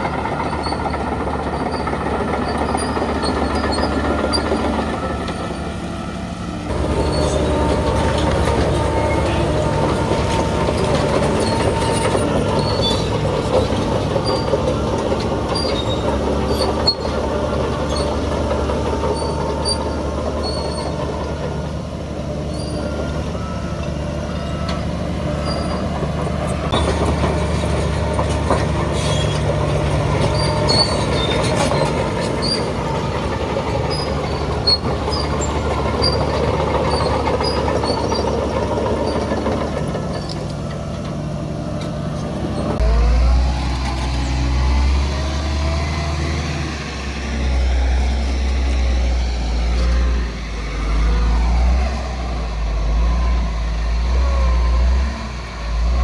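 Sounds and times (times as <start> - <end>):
bulldozer diesel engine running: 0.0 - 56.0
steel tracks squeaking: 0.0 - 56.0
tracks clanking: 0.0 - 56.0.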